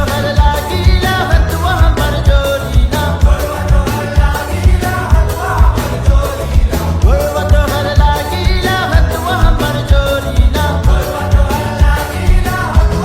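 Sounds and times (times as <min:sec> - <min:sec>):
person singing: 0:00.0 - 0:13.0
pounding electronic bass beat: 0:00.0 - 0:13.0.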